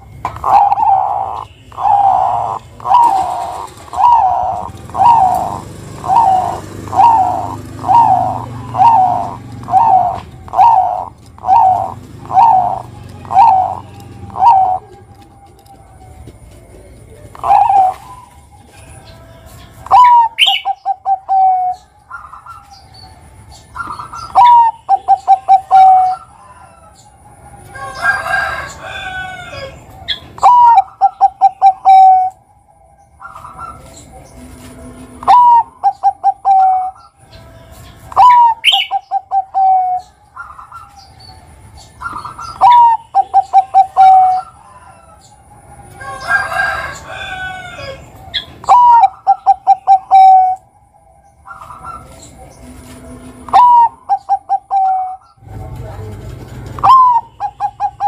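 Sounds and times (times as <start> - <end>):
dove cooing song: 0.0 - 58.0.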